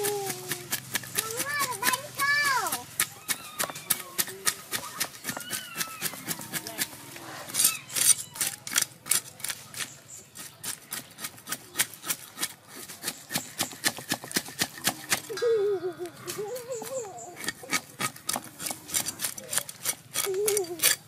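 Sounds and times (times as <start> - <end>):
cleaver scraping fish scales: 0.0 - 15.3, 16.3 - 21.0.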